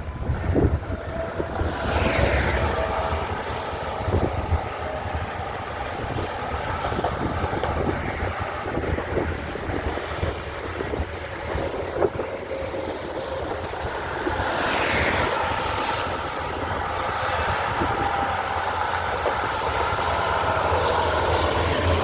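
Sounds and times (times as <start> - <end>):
vehicle passing: 0.0 - 12.2, 13.4 - 22.0
roadside traffic: 0.0 - 22.0
wind buffeting microphone: 0.0 - 22.0.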